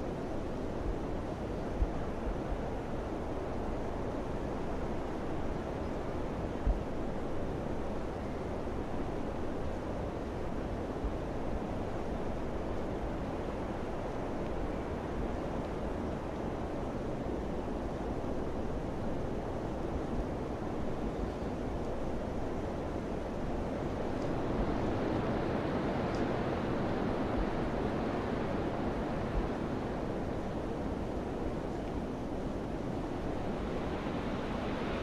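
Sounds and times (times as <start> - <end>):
rushing wind: 0.0 - 35.0.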